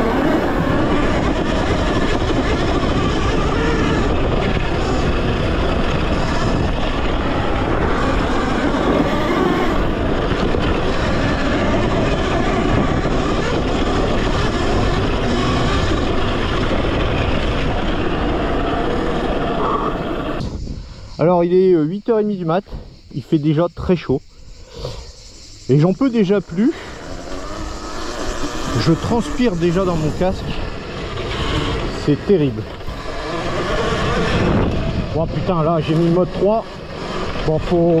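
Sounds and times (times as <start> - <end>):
dirt bike tyre and drivetrain noise: 0.0 - 38.0
wind rumble on microphone: 0.0 - 38.0.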